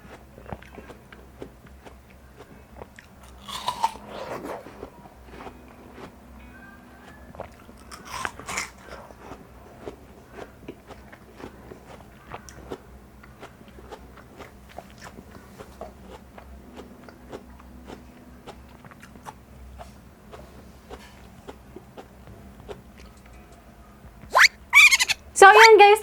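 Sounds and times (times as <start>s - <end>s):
crunching bites of watermelon: 0.0s - 6.1s, 7.0s - 22.1s
crackling chewing clicks: 0.0s - 6.2s, 7.0s - 23.7s.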